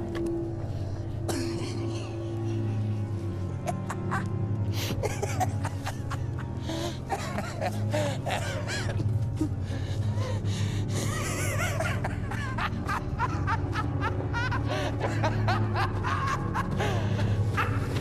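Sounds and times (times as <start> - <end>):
film score with low drone: 0.0 - 18.0.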